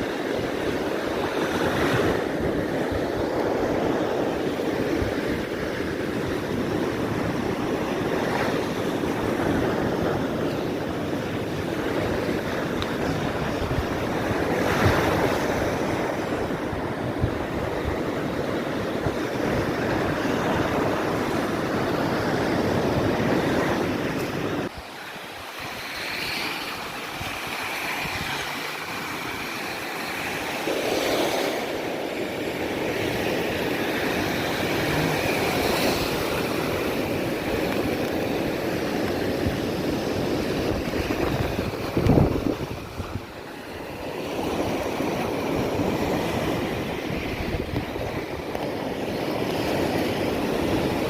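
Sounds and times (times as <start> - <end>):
surf waves: 0.0 - 51.0
wind buffeting microphone: 0.0 - 51.0.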